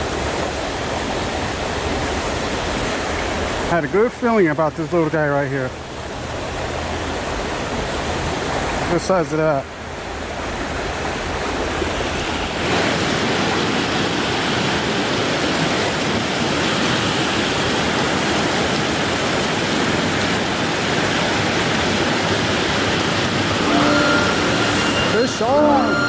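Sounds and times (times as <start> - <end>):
creek water rushing over rocks: 0.0 - 26.0.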